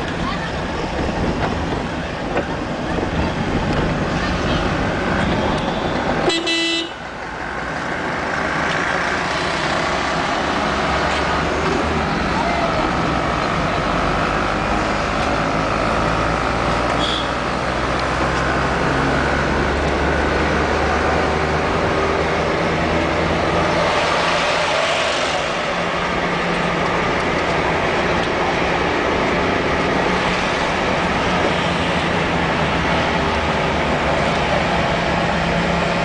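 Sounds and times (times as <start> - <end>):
tyre and road noise: 0.0 - 36.0.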